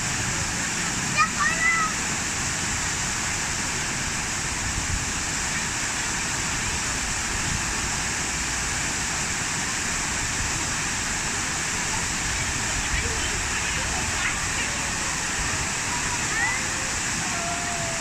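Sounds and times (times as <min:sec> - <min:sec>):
falling water rushing: 0:00.0 - 0:18.0.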